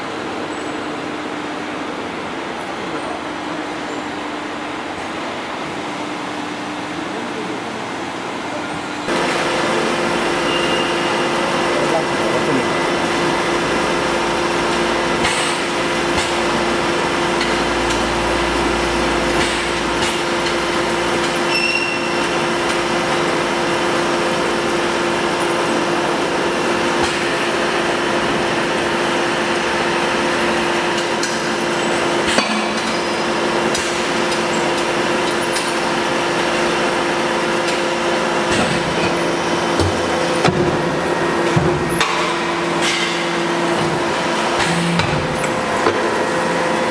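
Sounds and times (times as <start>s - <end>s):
machine mechanical hum: 0.0s - 46.9s.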